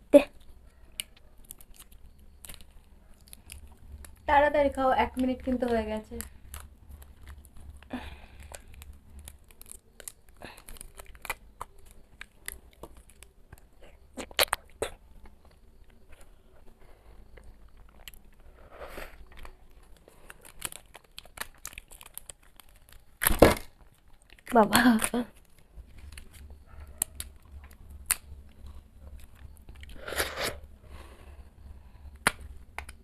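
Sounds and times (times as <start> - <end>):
plastic cups crinkling: 0.2 - 33.0.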